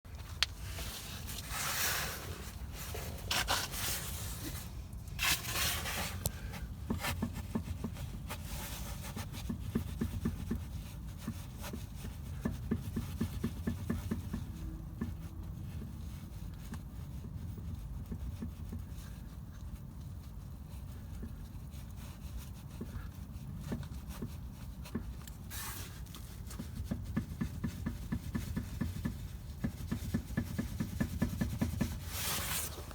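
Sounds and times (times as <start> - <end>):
rustling scrapes: 0.1 - 14.6, 15.2 - 32.9.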